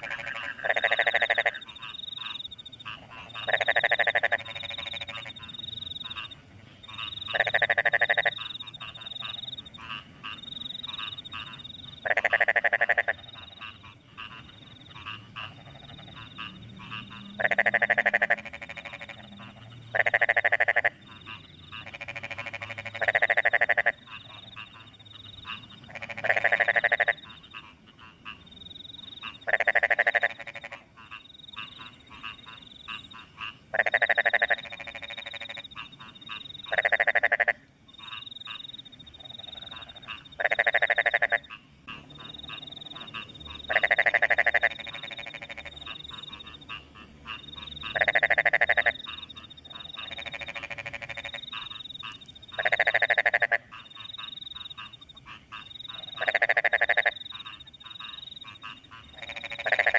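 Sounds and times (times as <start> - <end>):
crickets chirping: 0.0 - 59.9
frogs croaking: 0.0 - 59.9.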